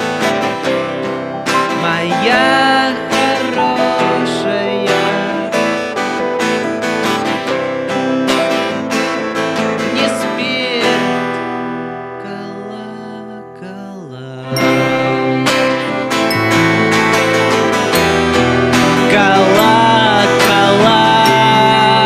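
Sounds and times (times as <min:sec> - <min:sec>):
band music with strummed guitars: 0:00.0 - 0:22.0.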